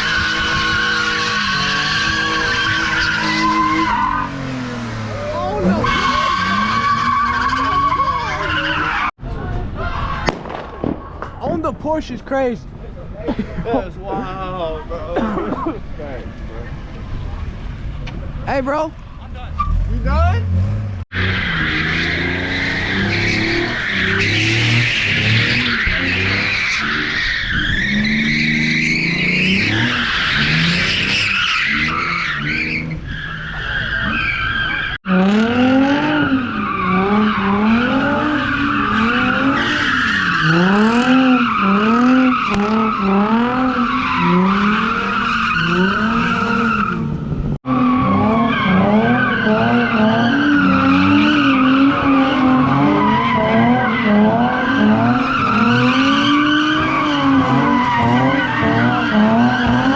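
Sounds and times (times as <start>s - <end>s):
car engine revving: 0.0s - 9.1s, 16.1s - 59.9s
car tyres squealing: 0.0s - 12.0s, 14.0s - 59.9s.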